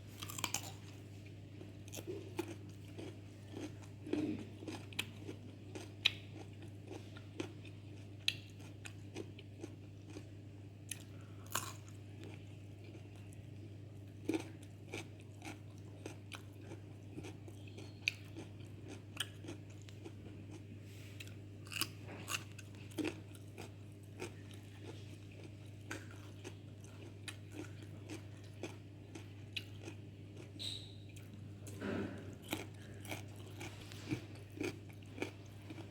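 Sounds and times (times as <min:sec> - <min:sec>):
steady low hum: 0:00.0 - 0:35.9
person chewing fruit: 0:00.1 - 0:35.9.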